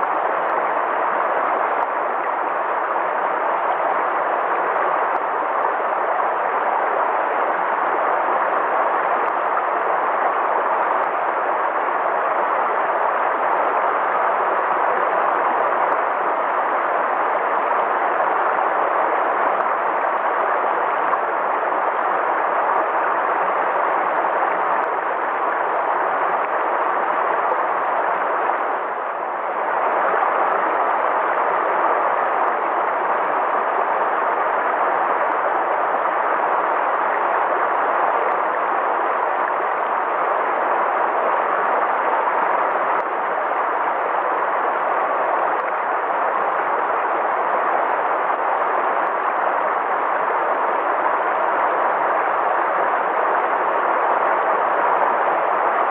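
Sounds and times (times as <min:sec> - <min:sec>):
river flowing: 0:00.0 - 0:55.9.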